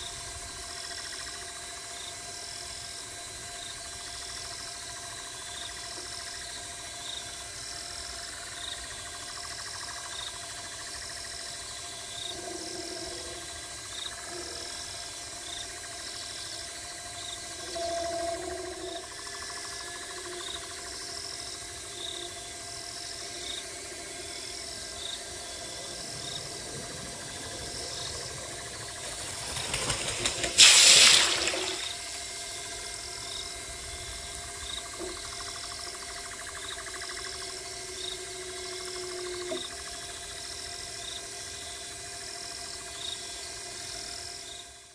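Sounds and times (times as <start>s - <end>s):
insects chirping: 0.0s - 44.9s
steady low hum: 0.0s - 44.9s.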